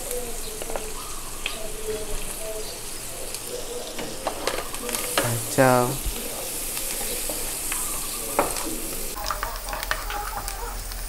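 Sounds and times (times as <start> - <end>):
spices sizzling in butter: 0.0 - 11.0
wooden spatula scraping a pan: 0.0 - 11.0.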